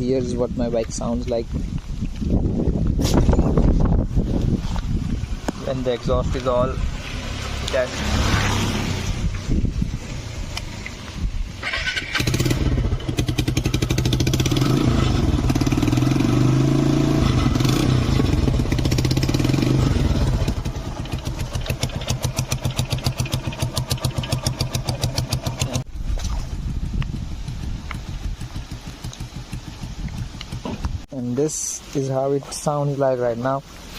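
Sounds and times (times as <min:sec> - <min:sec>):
motorcycle engine revving and idling: 0:03.0 - 0:31.1.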